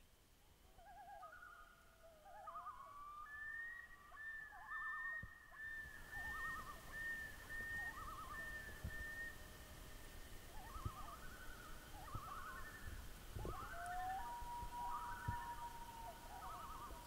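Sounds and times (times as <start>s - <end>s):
loons calling: 0.7s - 17.0s.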